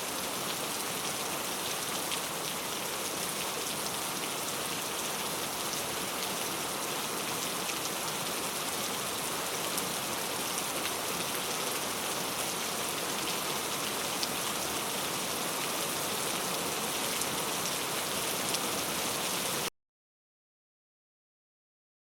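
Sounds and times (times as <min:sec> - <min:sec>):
heavy rain: 0:00.0 - 0:19.7.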